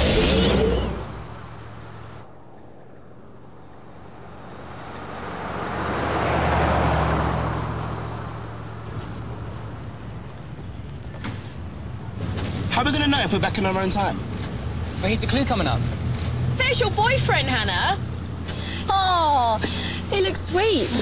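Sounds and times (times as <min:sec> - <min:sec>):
car driving past: 0:00.0 - 0:17.3.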